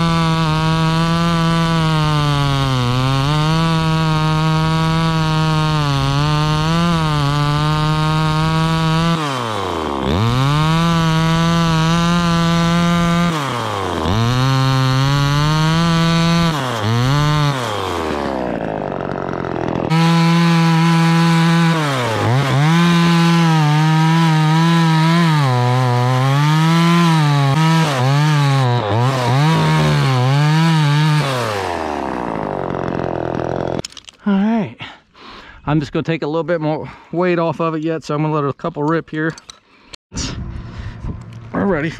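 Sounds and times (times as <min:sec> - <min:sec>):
chainsaw cutting wood: 0:00.0 - 0:34.1, 0:41.0 - 0:41.6.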